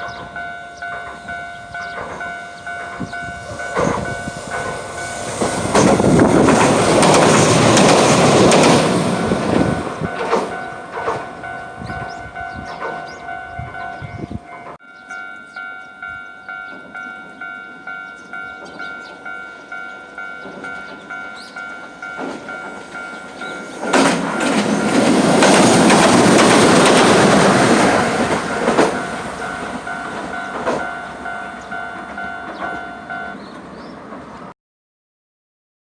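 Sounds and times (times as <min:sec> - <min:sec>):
crossing warning bell dinging: 0:00.0 - 0:34.5
trains passing over crossing: 0:00.0 - 0:34.5.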